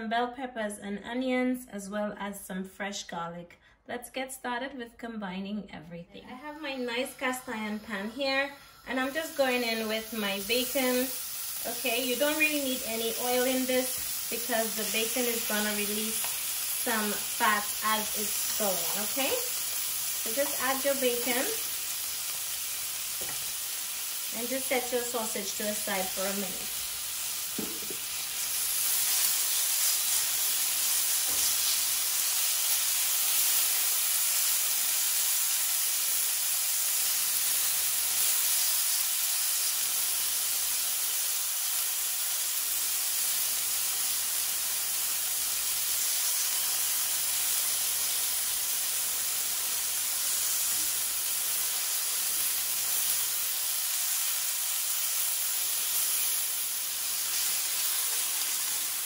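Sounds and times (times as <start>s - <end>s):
bacon sizzling in a pan: 6.4s - 59.0s.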